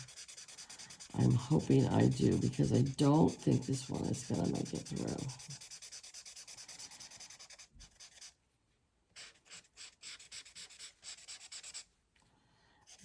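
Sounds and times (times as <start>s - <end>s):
marker scratching on paper: 0.0s - 8.4s, 9.2s - 11.9s.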